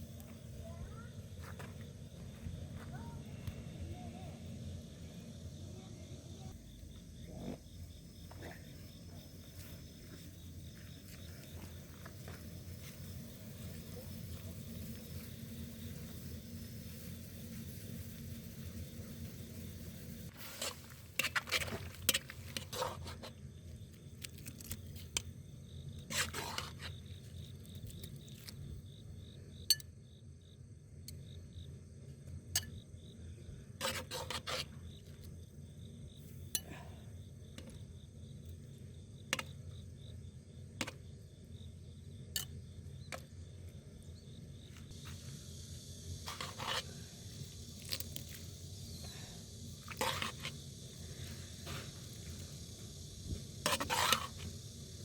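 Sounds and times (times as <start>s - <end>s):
faint insect chirring: 0.0s - 55.0s.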